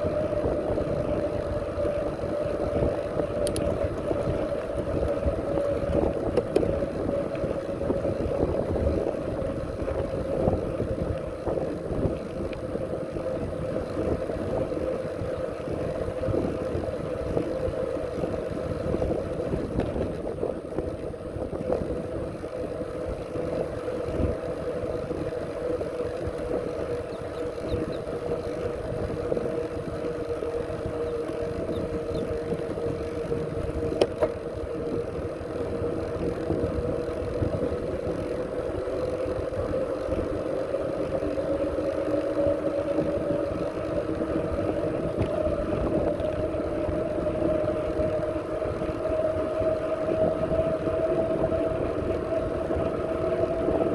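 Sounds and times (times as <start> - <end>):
bicycle hum: 0.0 - 53.9
rolling and wind noise: 0.0 - 53.9.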